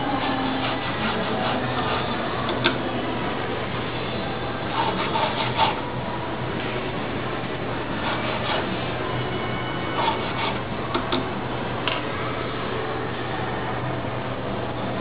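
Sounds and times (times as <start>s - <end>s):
machine whir: 0.0s - 14.0s.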